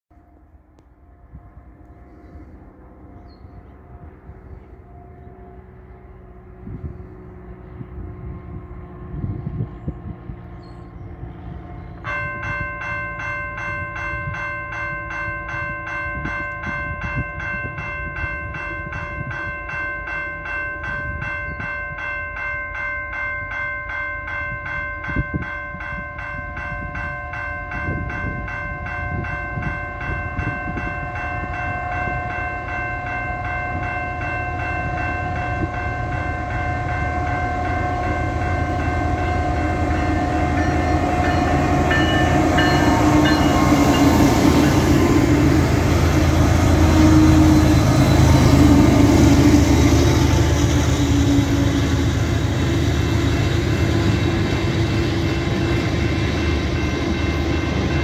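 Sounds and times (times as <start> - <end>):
freight train rumble: 0.2 - 58.0
level crossing warning bell: 11.4 - 58.0.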